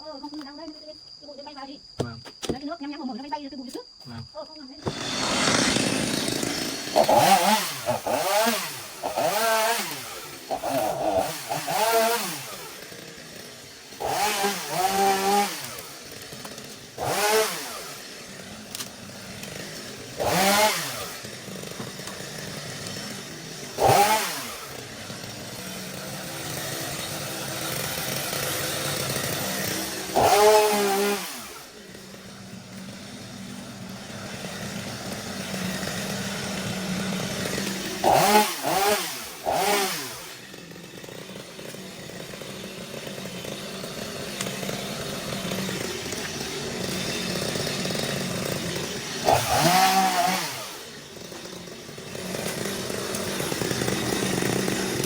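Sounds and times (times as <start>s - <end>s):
chainsaw revving and idling: 4.8s - 55.0s.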